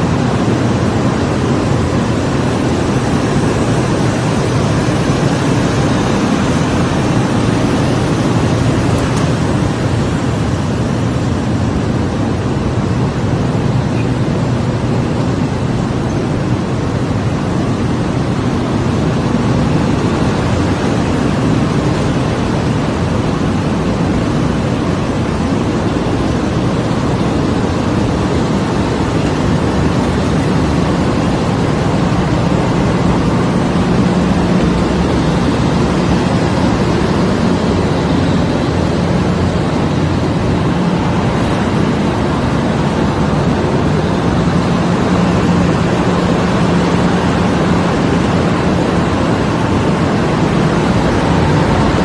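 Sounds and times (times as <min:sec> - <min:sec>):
factory machinery running: 0:00.0 - 0:52.0.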